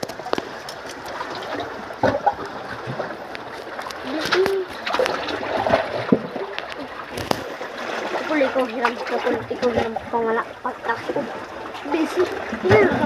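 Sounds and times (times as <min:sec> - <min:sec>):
sea water splashing on rocks: 0:00.0 - 0:13.0.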